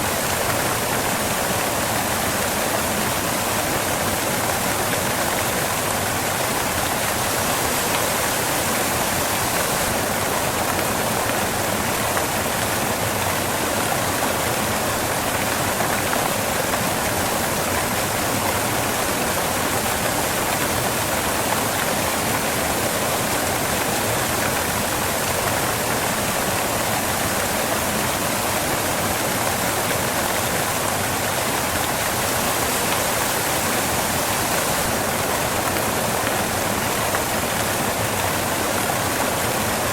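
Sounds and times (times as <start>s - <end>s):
waterfall crashing onto rocks: 0.0s - 39.9s.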